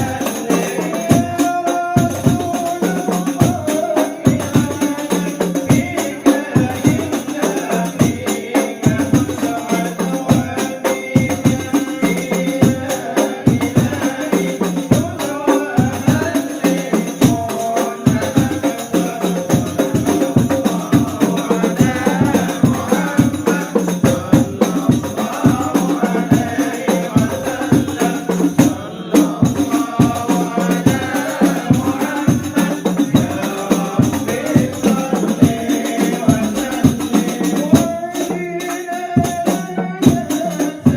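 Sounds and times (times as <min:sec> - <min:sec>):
frame drums beaten fast: 0:00.0 - 0:40.9
group singing devotional song: 0:00.0 - 0:40.9.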